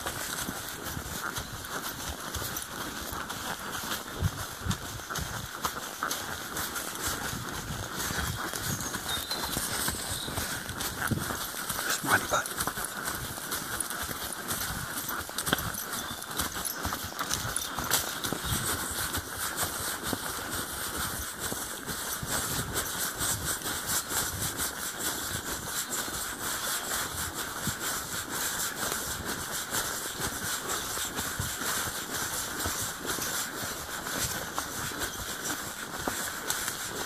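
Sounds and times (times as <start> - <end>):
hoofbeats on forest floor: 0.0 - 37.0.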